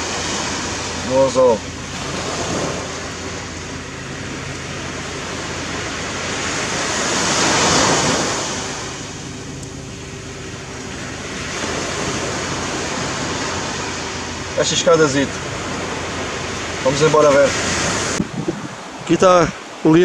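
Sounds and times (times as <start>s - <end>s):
waves washing on beach: 0.0s - 20.0s.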